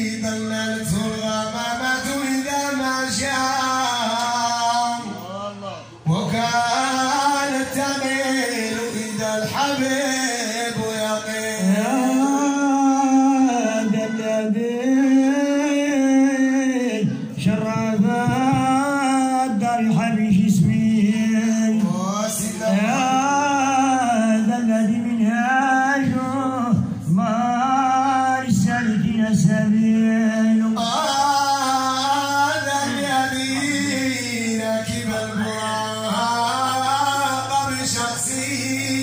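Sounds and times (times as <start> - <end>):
man singing through loudspeaker: 0.0 - 39.0.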